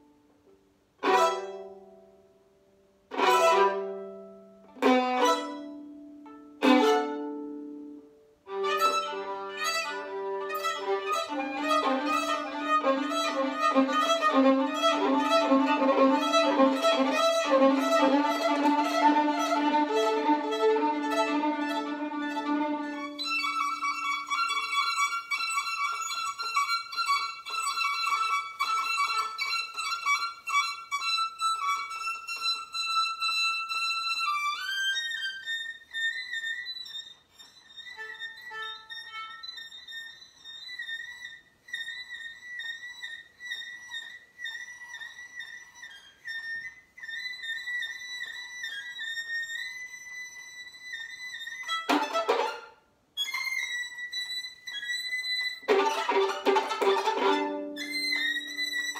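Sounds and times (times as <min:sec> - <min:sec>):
solo violin bowed: 0:01.0 - 0:02.3, 0:03.1 - 0:58.9.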